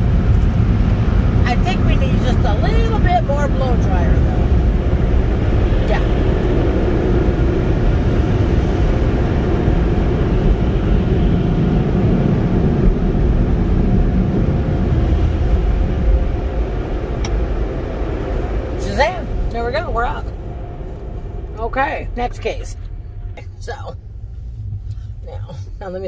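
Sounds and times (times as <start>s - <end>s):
car wash air dryers blowing: 0.0s - 26.0s.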